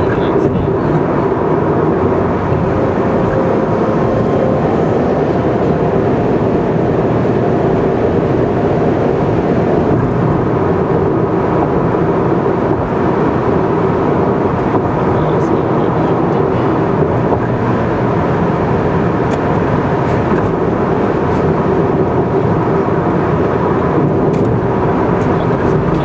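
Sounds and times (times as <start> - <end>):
car driving on highway: 0.0 - 26.0.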